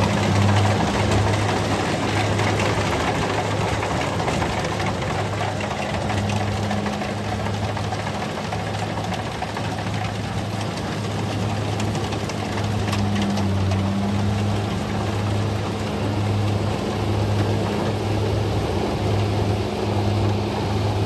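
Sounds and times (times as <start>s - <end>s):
diesel engine hum: 0.0s - 21.0s
machinery clatter: 0.0s - 21.0s.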